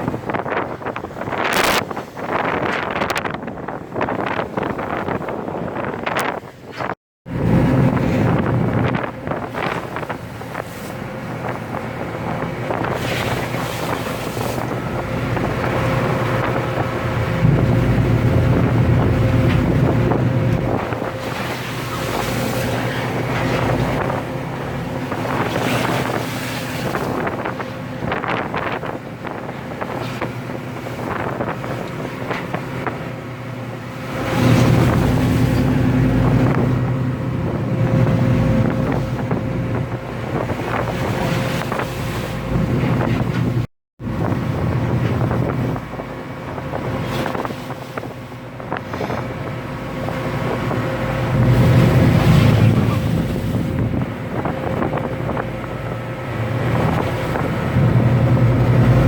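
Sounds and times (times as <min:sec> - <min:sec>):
wind buffeting microphone: 0:00.0 - 0:59.0
ship engine humming: 0:07.3 - 0:59.0.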